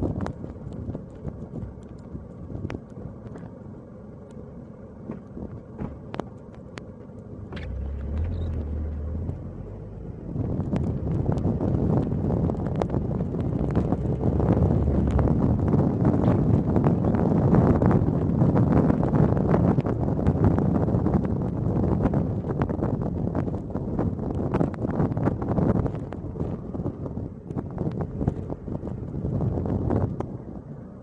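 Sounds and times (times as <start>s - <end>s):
snow crackling under tyres: 0.0s - 30.7s
car road and engine rumble: 0.0s - 31.0s.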